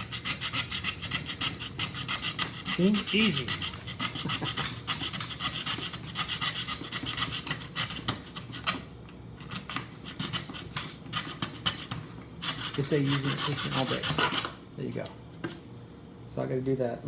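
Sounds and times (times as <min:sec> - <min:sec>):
hand tool rasping: 0:00.0 - 0:14.6.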